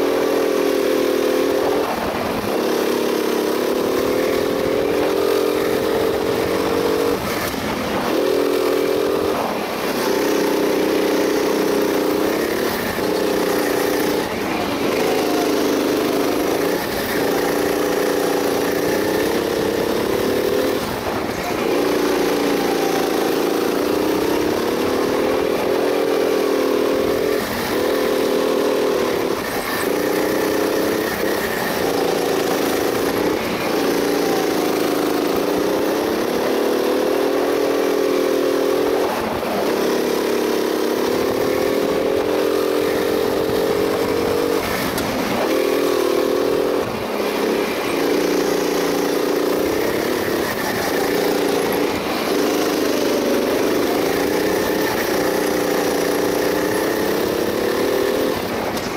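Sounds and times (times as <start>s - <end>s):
go-kart engine running hard: 0.0s - 58.9s.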